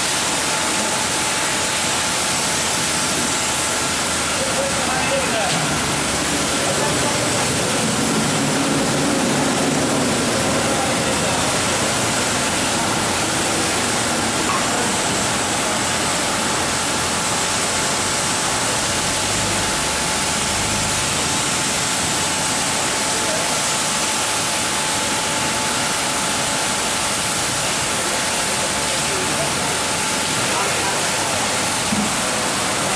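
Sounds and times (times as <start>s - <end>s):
rushing water and equipment: 0.0s - 32.9s.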